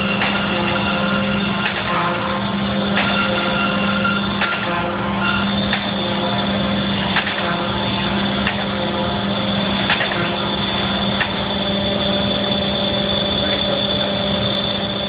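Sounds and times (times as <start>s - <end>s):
grinder motor hum and whine: 0.0s - 15.0s.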